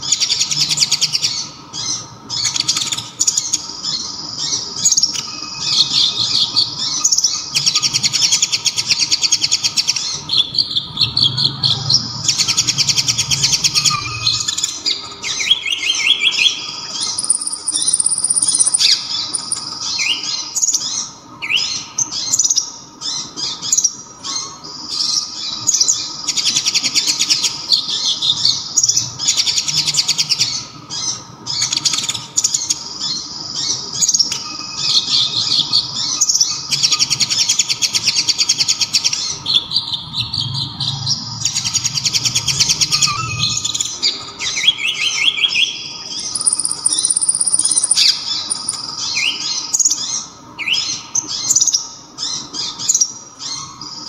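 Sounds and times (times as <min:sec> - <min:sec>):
bird chirps: 0:00.0 - 0:54.0
bird singing fast trills: 0:00.0 - 0:54.0
faint steady hum: 0:00.0 - 0:54.0.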